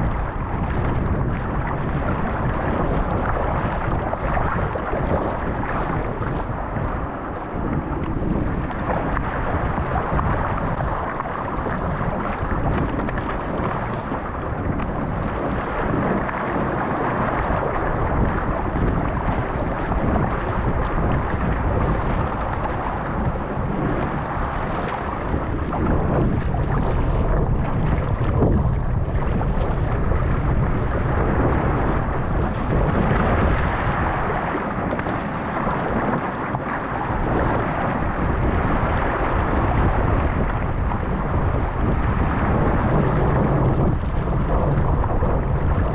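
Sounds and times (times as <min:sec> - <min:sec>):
rushing water and waves: 0:00.0 - 0:45.9
wind buffeting microphone: 0:00.0 - 0:45.9.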